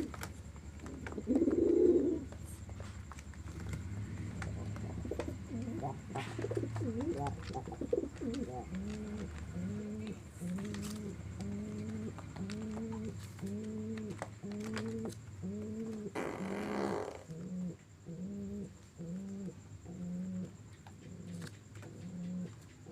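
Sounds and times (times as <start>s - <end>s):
pigeon cooing: 0.0s - 22.9s.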